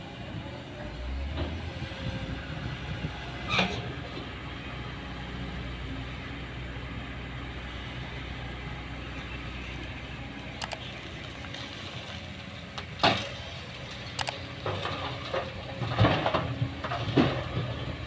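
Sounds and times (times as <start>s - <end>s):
diesel engines running: 0.0s - 18.0s.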